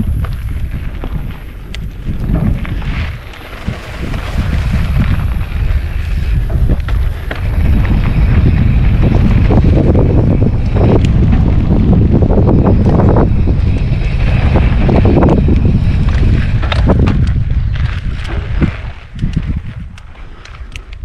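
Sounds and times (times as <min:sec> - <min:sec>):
bike rattling over bumps: 0:00.0 - 0:21.0
tyres on dirt: 0:00.0 - 0:21.0
wind buffeting microphone: 0:00.0 - 0:21.0.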